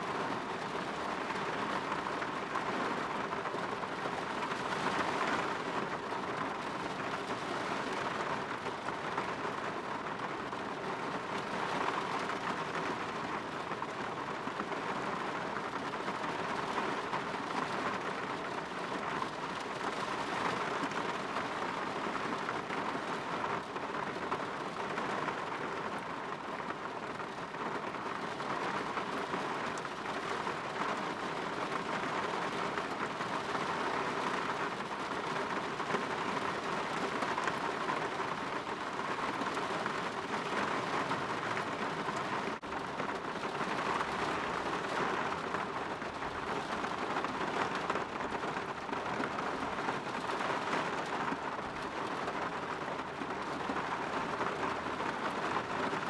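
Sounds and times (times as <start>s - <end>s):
rain pattering on a window: 0.0s - 56.0s.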